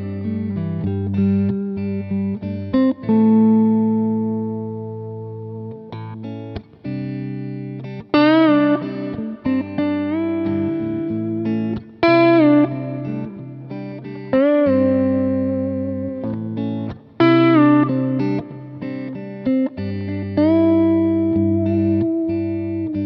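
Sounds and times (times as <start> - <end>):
electric guitar held notes: 0.0 - 23.0.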